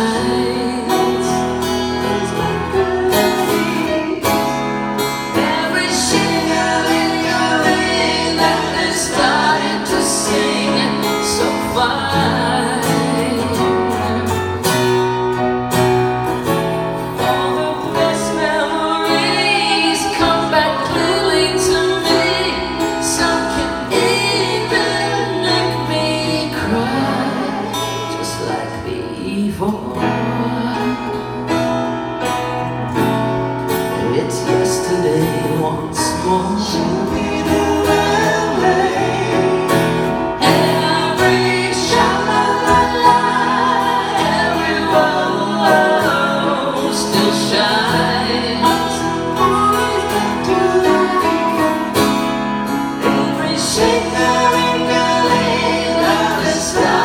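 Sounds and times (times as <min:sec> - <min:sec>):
woman singing: 0:00.0 - 0:14.3, 0:17.2 - 0:31.5, 0:34.0 - 0:52.0, 0:53.0 - 0:57.0
man singing: 0:00.0 - 0:14.6, 0:17.1 - 0:31.6, 0:33.8 - 0:52.2, 0:52.9 - 0:57.0
strummed acoustic guitar: 0:00.0 - 0:57.0.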